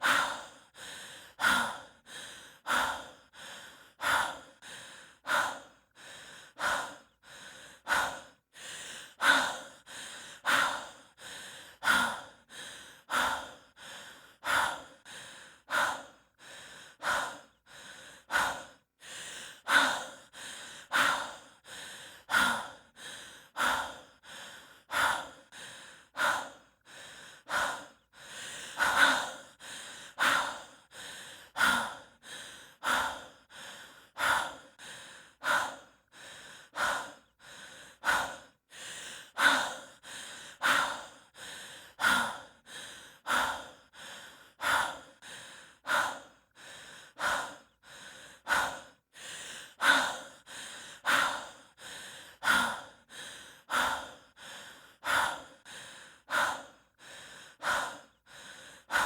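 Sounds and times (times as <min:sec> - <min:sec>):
person breathing heavily: 0:00.0 - 0:59.0.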